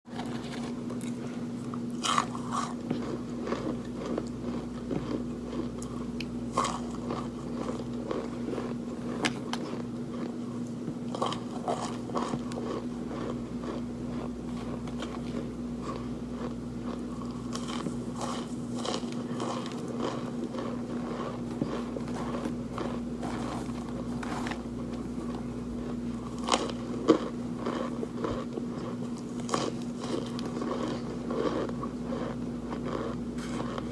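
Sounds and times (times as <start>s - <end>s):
chewing something crunchy: 0.1s - 33.9s.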